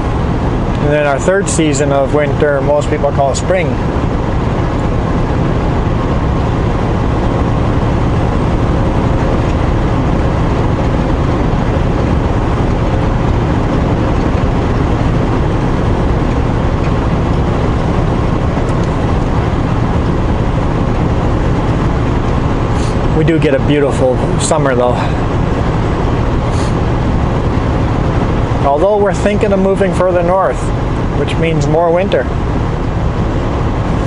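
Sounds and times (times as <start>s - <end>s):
truck engine and road noise: 0.0s - 34.0s.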